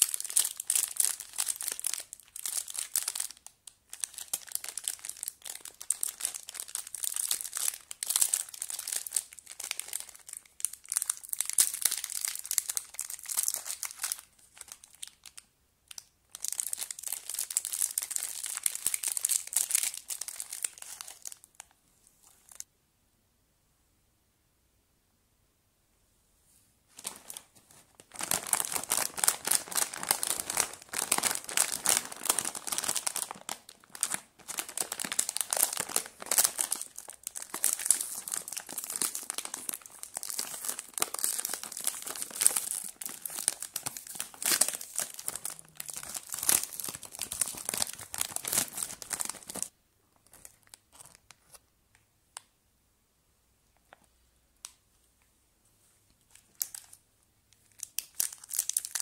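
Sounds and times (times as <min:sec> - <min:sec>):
snack bag crinkling and tearing: 0:00.0 - 0:22.6, 0:27.0 - 0:51.6, 0:56.3 - 0:57.0, 0:57.6 - 0:59.0.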